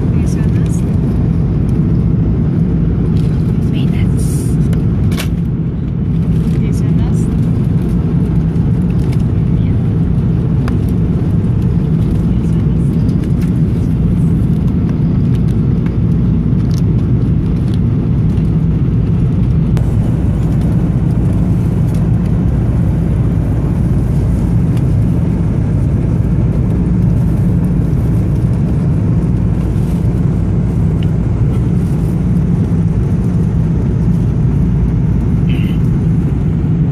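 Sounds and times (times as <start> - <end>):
airliner engine rumble: 0.0 - 36.9.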